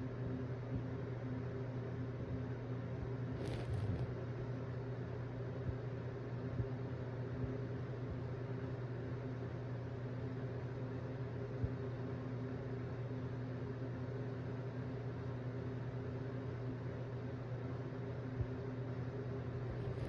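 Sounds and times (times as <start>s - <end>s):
low mechanical hum with hiss: 0.0s - 20.0s.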